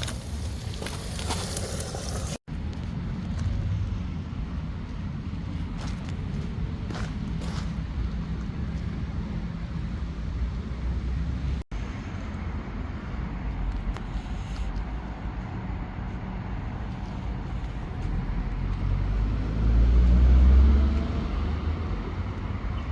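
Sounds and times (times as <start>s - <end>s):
outdoor rumble: 0.0s - 22.9s.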